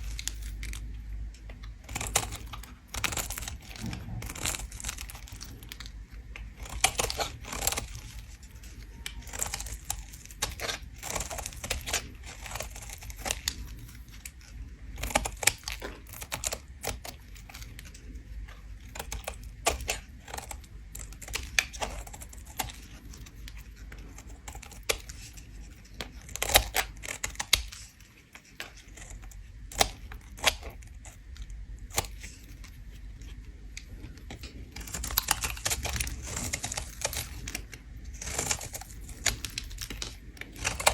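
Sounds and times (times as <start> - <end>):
soap bar being scraped: 0.0 - 40.9.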